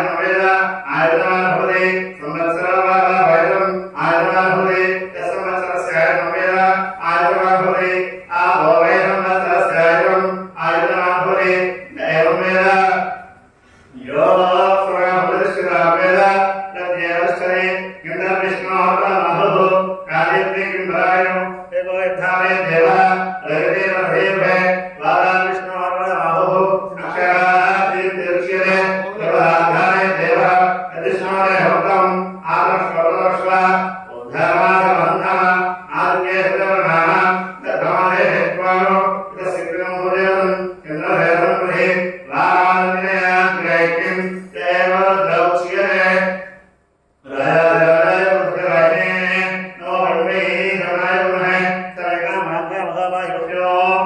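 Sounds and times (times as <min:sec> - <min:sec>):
voices chanting a hymn: 0:00.0 - 0:46.6, 0:47.2 - 0:54.0.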